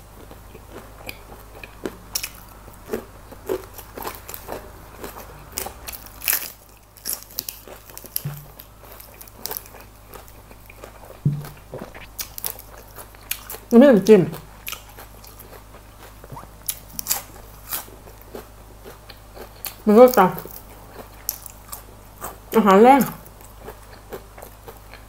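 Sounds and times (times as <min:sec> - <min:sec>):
crunchy chewing: 0:00.0 - 0:25.0.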